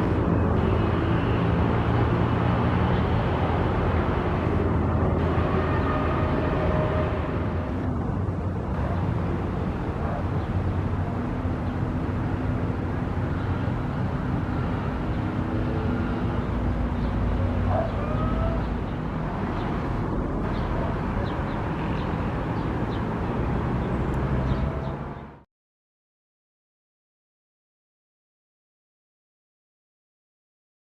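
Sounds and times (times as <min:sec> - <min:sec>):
low rumble of city traffic: 0:00.0 - 0:25.5.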